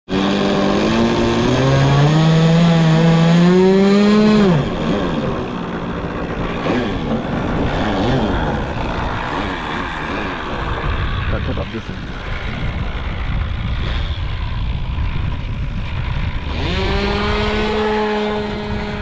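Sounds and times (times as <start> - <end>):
model airplane engine revving: 0.1 - 19.0.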